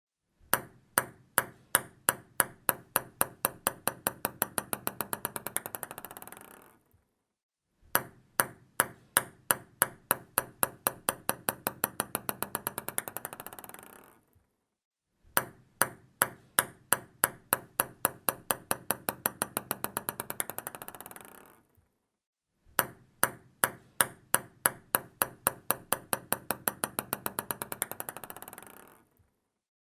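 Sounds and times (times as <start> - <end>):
ping pong ball bouncing: 0.6 - 6.8, 8.0 - 14.2, 15.4 - 21.7, 22.8 - 29.3.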